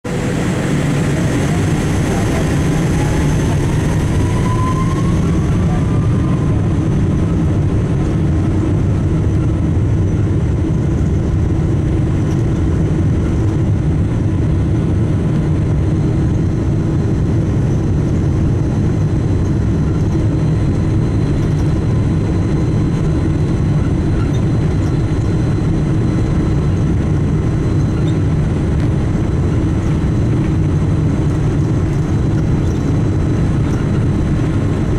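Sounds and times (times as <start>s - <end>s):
jet engine whine: 0.0s - 34.9s
jet engines rumbling in cabin: 0.0s - 34.9s.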